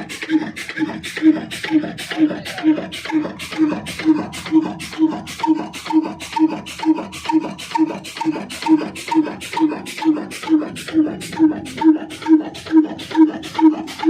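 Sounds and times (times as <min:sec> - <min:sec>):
diesel engine beating slowly: 0:00.0 - 0:14.0.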